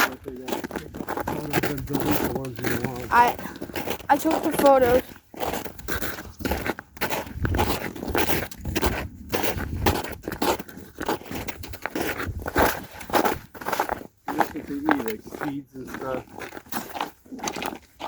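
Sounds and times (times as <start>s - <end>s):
footsteps crunching in snow: 0.0s - 18.0s.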